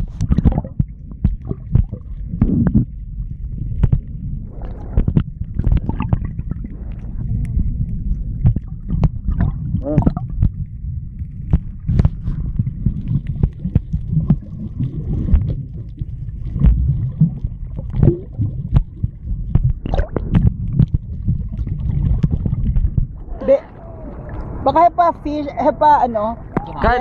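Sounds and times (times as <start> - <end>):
bubbling: 0.0 - 27.0
underwater churning rumble: 0.0 - 27.0
sharp underwater clicks: 0.1 - 3.0, 3.7 - 23.2.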